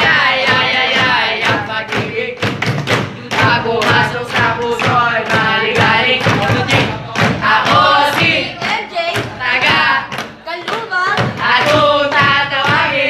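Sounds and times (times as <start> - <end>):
steady thumping beat: 0.0 - 13.0
young voices singing together: 0.0 - 13.0.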